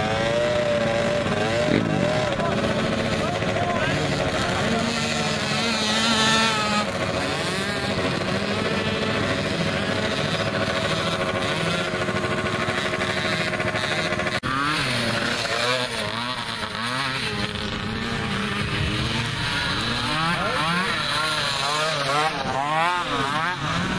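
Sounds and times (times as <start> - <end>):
quad engine revving: 0.0 - 23.9
quad engines running: 0.0 - 23.9.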